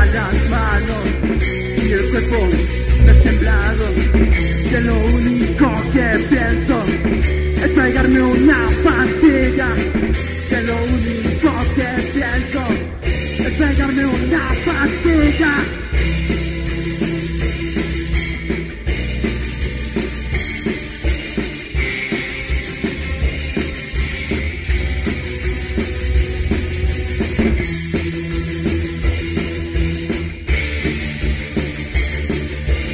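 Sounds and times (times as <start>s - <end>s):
sliding guitar lead line: 0.0s - 19.9s, 20.8s - 31.3s
bass guitar: 0.0s - 32.9s
drum kit beating: 0.0s - 32.9s
electric guitar: 0.0s - 32.9s.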